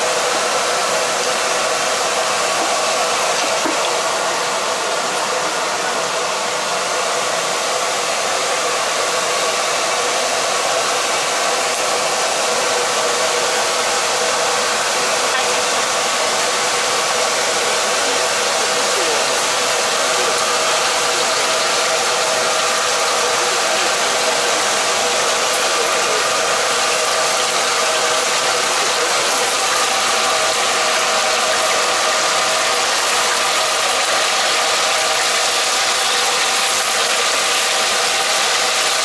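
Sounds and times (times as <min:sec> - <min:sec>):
gas burner rushing: 0:00.0 - 0:39.0.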